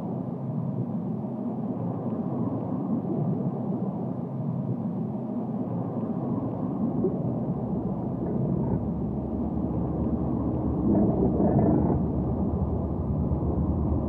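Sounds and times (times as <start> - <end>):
low rumble of barge machinery: 0.0 - 14.0.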